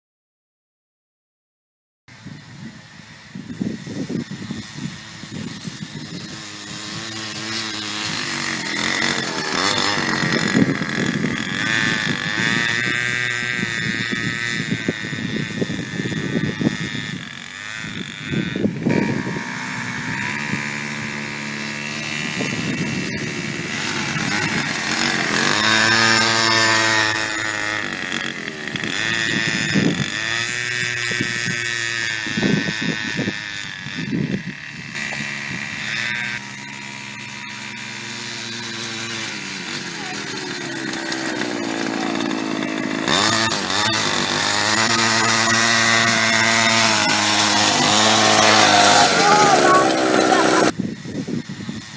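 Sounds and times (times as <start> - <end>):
small two-stroke engine revving: 2.1 - 51.9.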